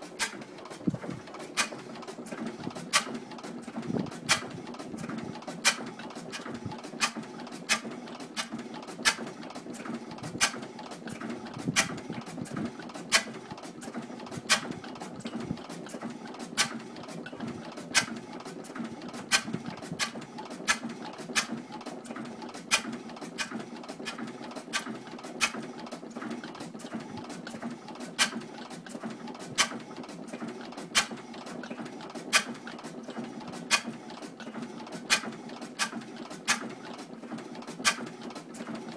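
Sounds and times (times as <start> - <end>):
sharp rhythmic engine clicks: 0.0 - 38.9
stationary gas engine humming: 0.0 - 38.9.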